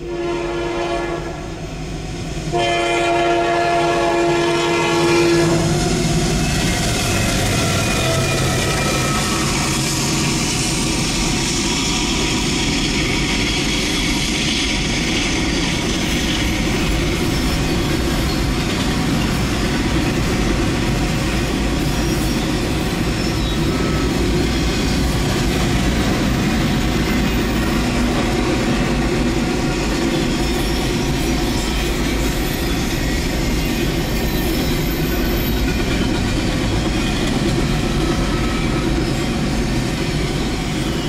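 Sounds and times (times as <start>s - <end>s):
railroad cars rumbling on rails: 0.0s - 41.0s.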